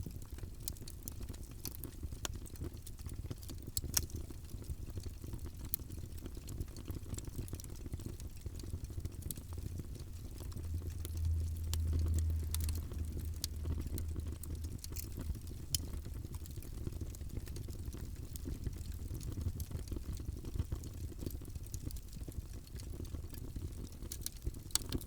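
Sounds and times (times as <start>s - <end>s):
fire crackling with pops: 0.0s - 25.0s
low rumble of flames: 0.0s - 25.0s.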